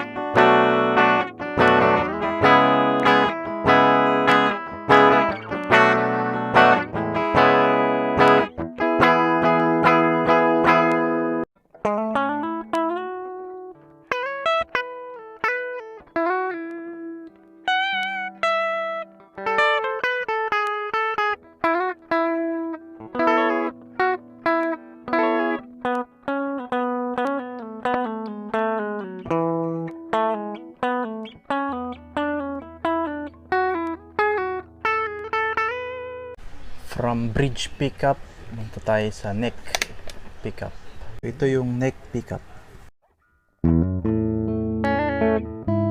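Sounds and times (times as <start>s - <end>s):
clean electric guitar playing: 0.0s - 36.8s, 43.2s - 45.9s.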